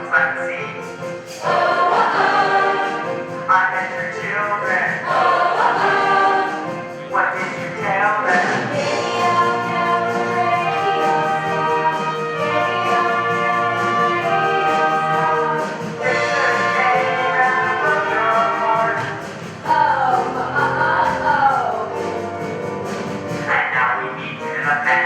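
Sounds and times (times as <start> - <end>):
pop song with choir-like backing: 1.2 - 22.4, 23.4 - 25.0.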